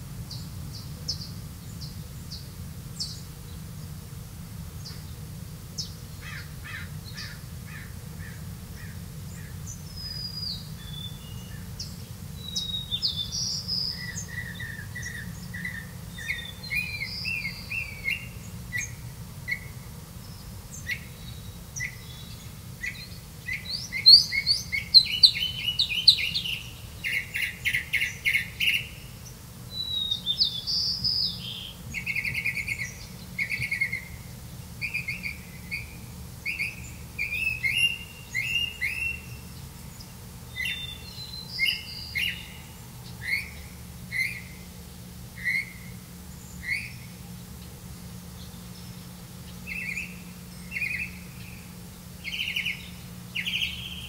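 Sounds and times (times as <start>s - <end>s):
faint steady low hum: 0.0s - 54.0s
birds chirping: 4.8s - 54.0s.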